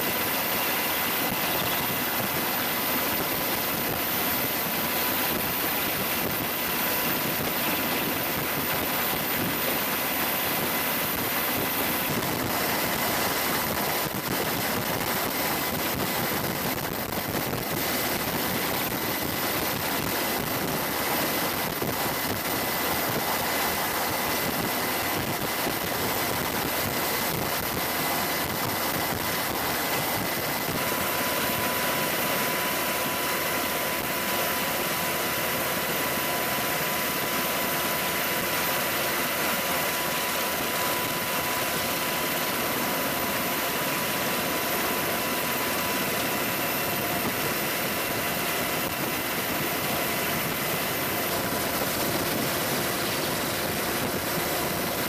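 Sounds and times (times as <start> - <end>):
aircraft engine and rotor drone: 0.0 - 55.0
constant high whine: 0.0 - 55.0.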